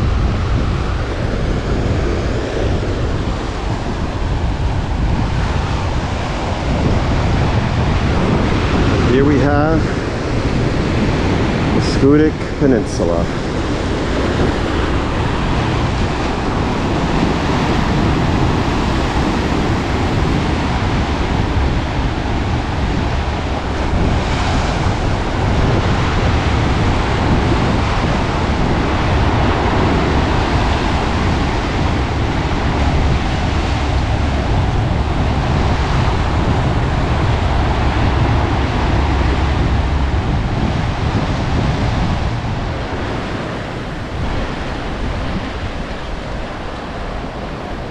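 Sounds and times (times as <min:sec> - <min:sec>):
ocean surf washing: 0:00.0 - 0:47.9
wind gusting over microphone: 0:00.0 - 0:47.9.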